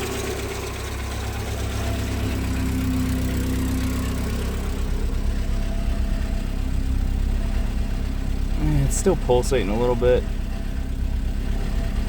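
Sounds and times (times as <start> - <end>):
rough car engine idling: 0.0 - 12.0.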